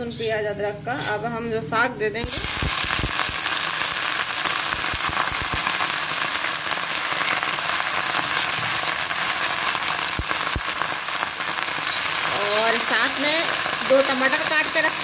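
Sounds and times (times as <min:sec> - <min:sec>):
hot oil sizzling and crackling: 0:02.2 - 0:15.0.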